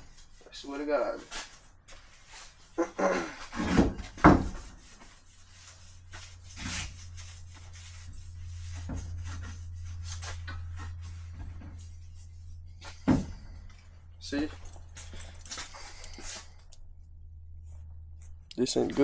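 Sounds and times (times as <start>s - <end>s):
low steady hum: 2.8s - 19.0s.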